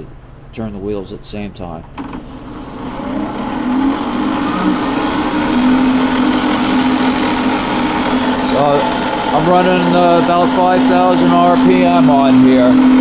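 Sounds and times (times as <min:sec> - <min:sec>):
milling spindle whine: 0:01.8 - 0:13.0.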